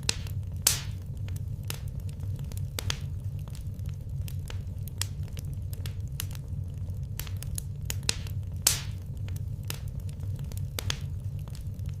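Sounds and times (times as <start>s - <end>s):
low rumble: 0.0s - 12.0s
sharp pops and snaps: 0.0s - 12.0s
wood fire crackling: 0.0s - 12.0s.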